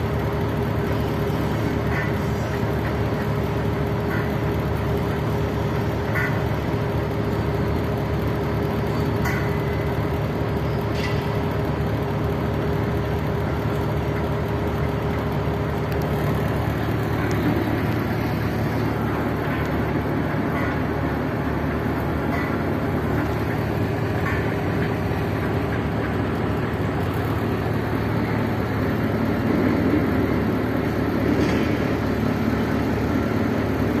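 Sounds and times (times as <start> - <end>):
heavy engine droning: 0.0 - 34.0.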